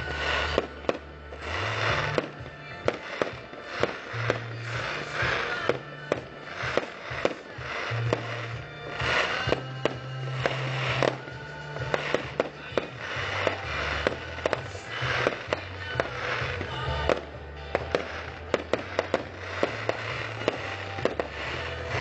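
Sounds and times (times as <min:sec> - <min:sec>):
fireworks bangs: 0:00.0 - 0:22.0
fireworks crackling: 0:00.0 - 0:22.0
music with bass line: 0:00.0 - 0:22.0.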